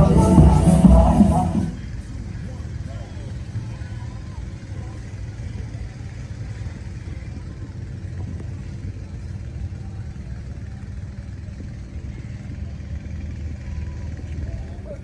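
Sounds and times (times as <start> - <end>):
motorcycle engines idling: 0.0 - 3.7, 4.9 - 15.0.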